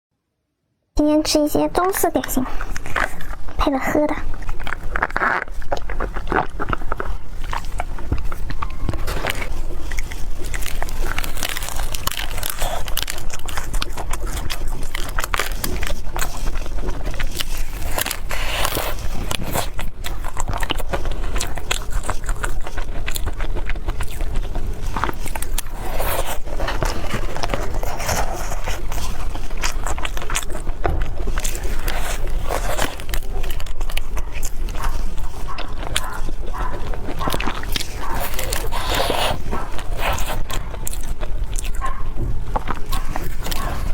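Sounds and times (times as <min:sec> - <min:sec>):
person chewing crunchy pastries: 0:01.7 - 0:43.9.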